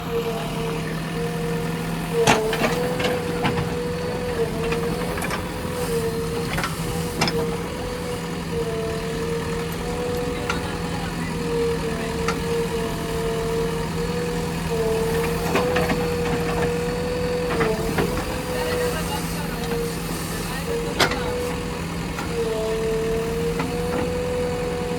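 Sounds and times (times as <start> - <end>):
backhoe loader engine humming: 0.0 - 24.9.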